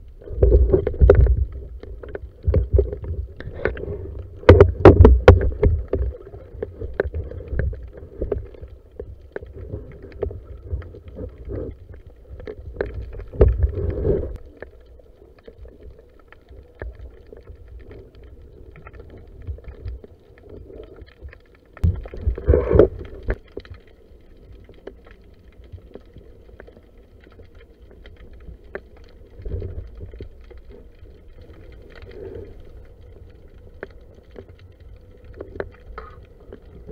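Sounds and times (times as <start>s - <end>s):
muffled underwater water sloshing: 0.0s - 36.9s.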